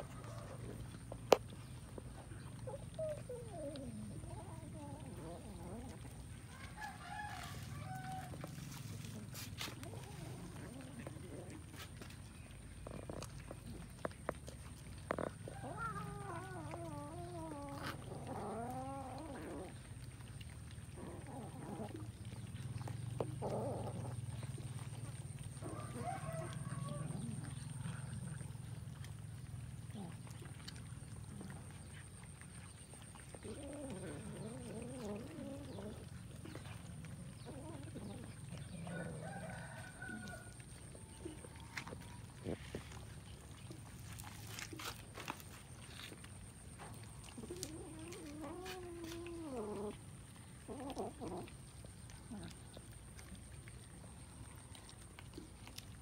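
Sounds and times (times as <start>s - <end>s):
clicks of eating: 0.0s - 56.0s.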